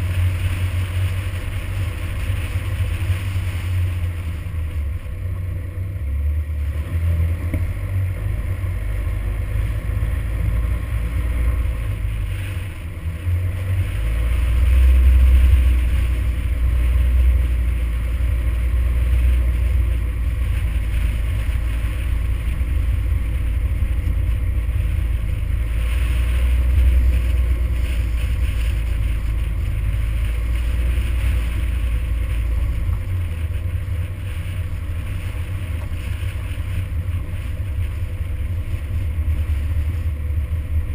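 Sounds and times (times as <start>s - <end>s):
tyres on gravel: 0.0s - 40.9s
vehicle engine rumble: 0.0s - 40.9s.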